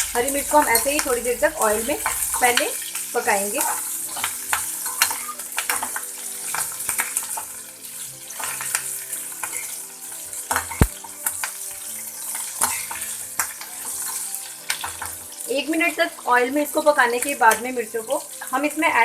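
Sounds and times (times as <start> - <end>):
chillies sizzling in oil: 0.0 - 19.0.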